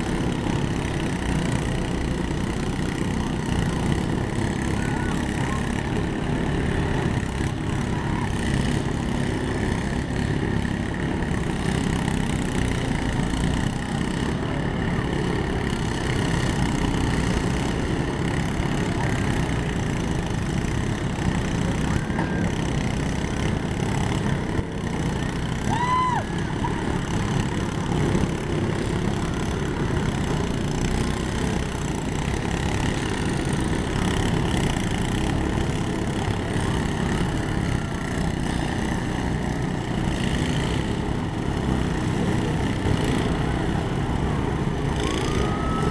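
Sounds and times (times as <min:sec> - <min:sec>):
lawn mower engines droning: 0:00.0 - 0:45.9.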